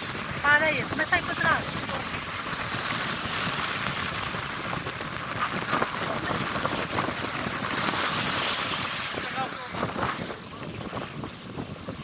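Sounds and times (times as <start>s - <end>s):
small waves washing on sand: 0.0s - 12.0s
wind rushing over microphone: 0.0s - 12.0s.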